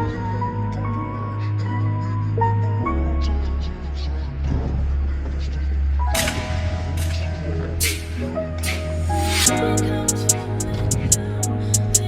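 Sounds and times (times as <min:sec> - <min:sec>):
soft music with bass line: 0:00.0 - 0:12.0.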